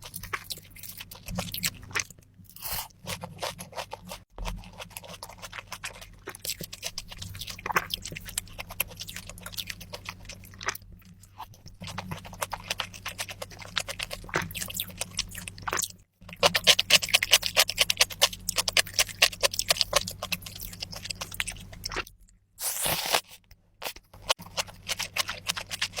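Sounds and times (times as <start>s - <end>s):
wet chewing: 0.0s - 26.0s.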